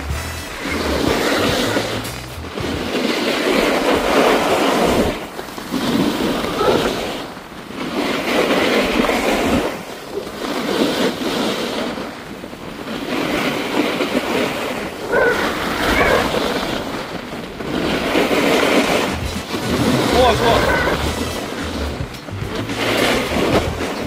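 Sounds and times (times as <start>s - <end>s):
snowboard carving across snow: 0.0s - 24.0s
wind rushing: 0.0s - 24.0s.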